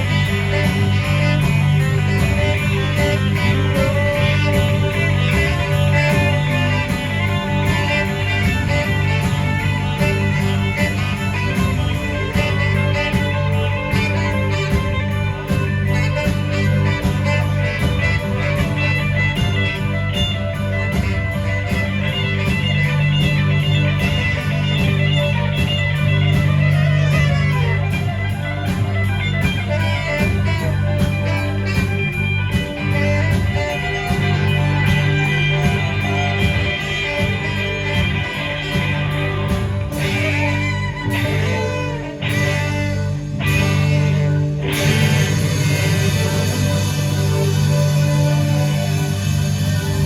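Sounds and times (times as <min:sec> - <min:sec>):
rock band playing: 0:00.0 - 0:50.0.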